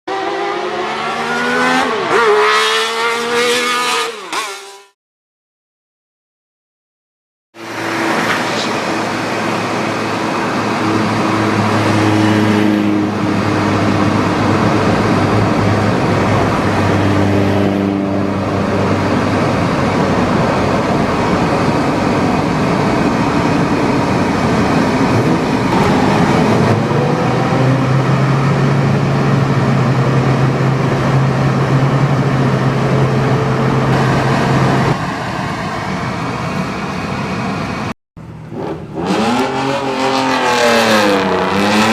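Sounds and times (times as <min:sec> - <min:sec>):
car engines running: 0:07.6 - 0:41.9.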